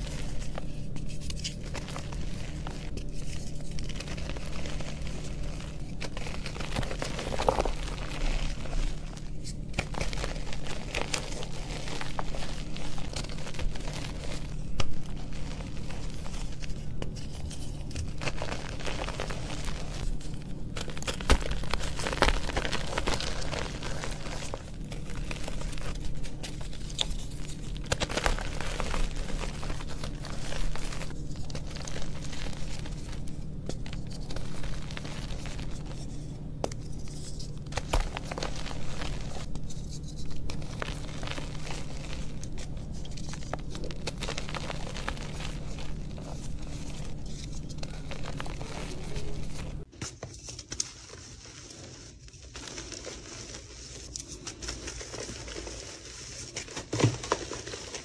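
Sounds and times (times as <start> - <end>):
chalk crunching by hand: 0.0 - 49.9.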